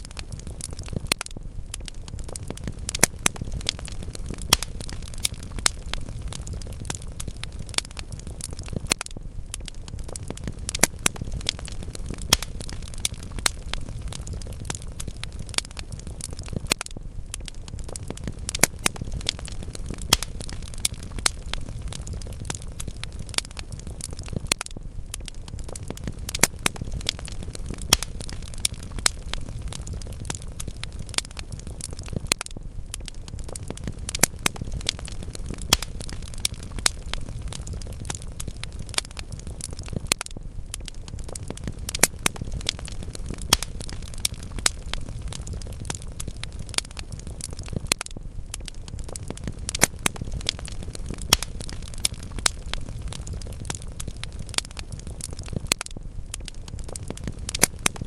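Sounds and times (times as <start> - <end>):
burning logs rumbling: 0.0 - 58.0
fire pops and snaps: 0.0 - 58.0.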